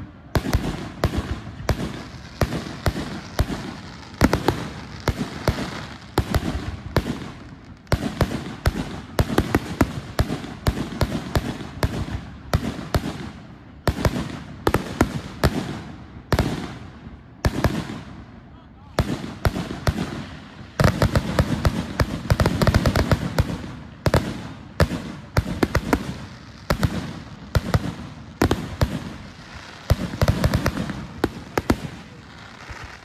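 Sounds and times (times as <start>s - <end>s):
fireworks banging: 0.0s - 33.0s
fireworks crackling: 0.0s - 33.0s.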